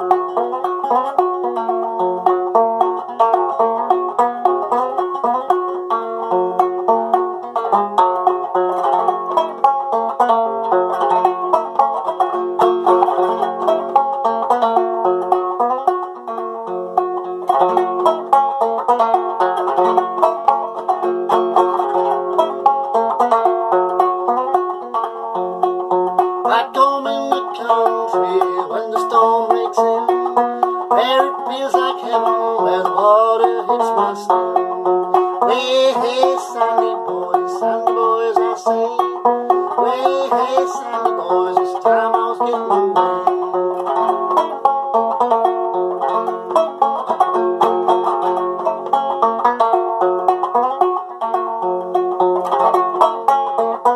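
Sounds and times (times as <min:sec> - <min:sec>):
banjo playing: 0:00.0 - 0:53.9.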